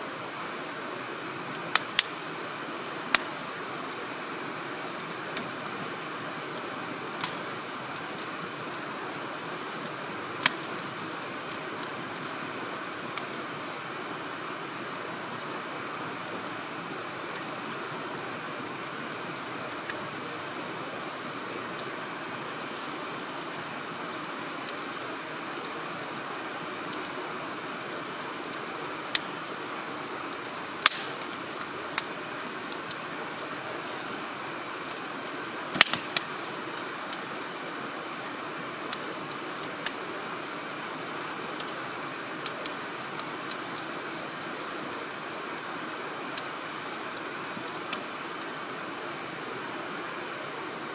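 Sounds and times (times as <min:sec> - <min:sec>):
firewood burning with crackles: 0:00.0 - 0:50.9.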